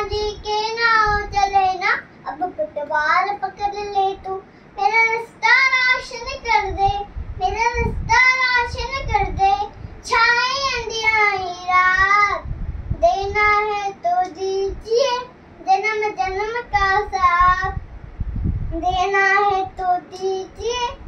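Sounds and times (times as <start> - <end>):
boy singing unaccompanied: 0.0 - 17.8, 18.7 - 21.0.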